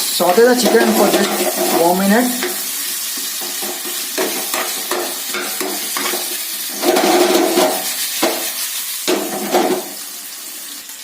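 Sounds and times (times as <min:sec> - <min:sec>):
chicken sizzling in oil: 0:00.0 - 0:11.0
spatula scraping a pan: 0:00.5 - 0:10.0.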